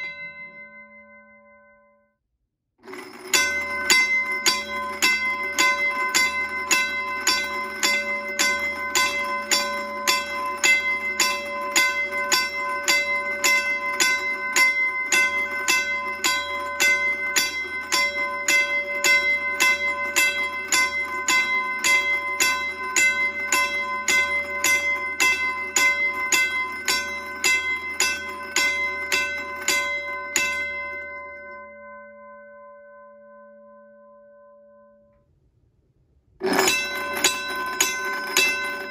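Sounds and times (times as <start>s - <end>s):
crossing bell clanging: 2.9s - 31.8s, 36.4s - 38.9s.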